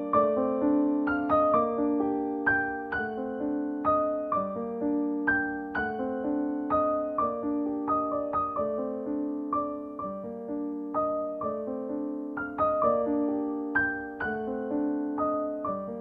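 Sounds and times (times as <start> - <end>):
gentle solo piano piece: 0.0 - 16.0.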